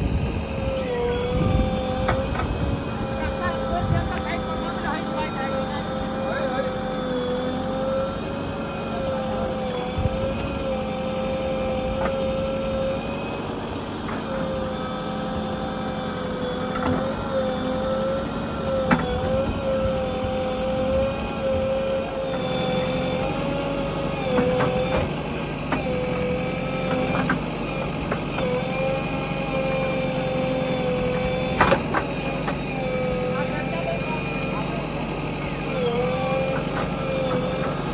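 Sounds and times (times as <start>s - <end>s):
backhoe diesel engine running: 0.0s - 37.9s.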